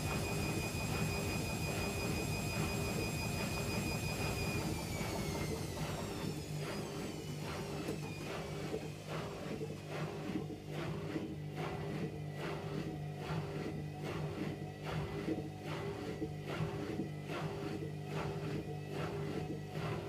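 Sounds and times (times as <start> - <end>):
washing machine motor whine: 0.0 - 20.0.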